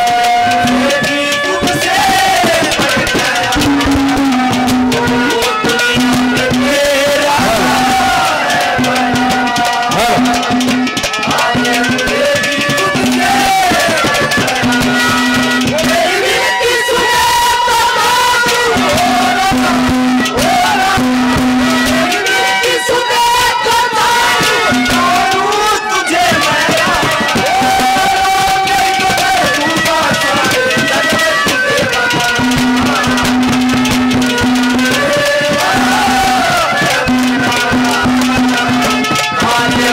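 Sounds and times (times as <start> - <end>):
hand drum beating: 0.0 - 39.9
sliding melody notes: 0.0 - 39.9.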